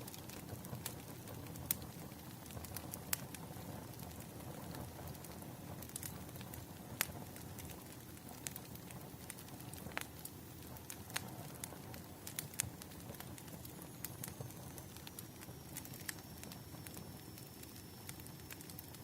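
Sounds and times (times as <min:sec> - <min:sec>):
pops and snaps of burning logs: 0:00.0 - 0:19.0
wood fire crackling: 0:00.0 - 0:19.0.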